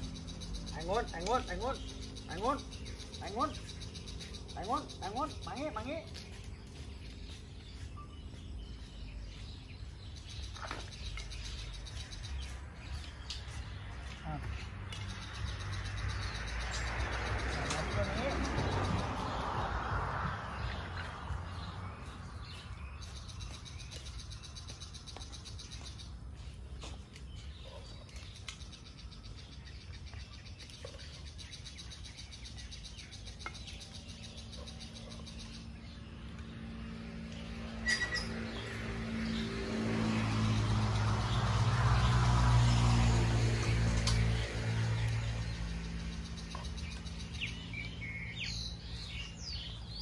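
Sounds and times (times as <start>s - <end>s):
birds chirping: 0.0s - 50.0s
low engine hum: 0.0s - 50.0s.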